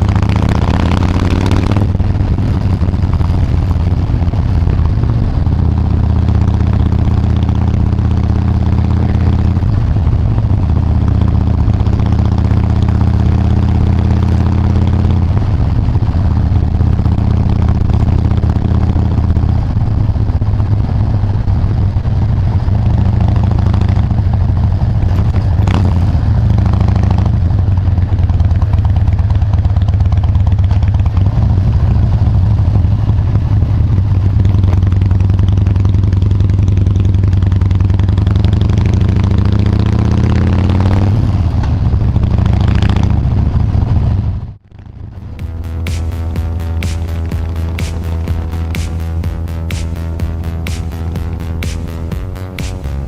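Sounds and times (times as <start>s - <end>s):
motorcycle engine running at low revs: 0.0s - 53.0s.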